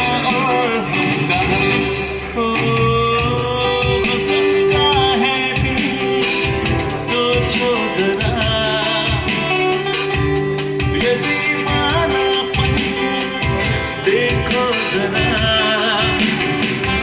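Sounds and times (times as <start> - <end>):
person singing: 0.0 - 17.0
song with drum beat and guitar: 0.0 - 17.0.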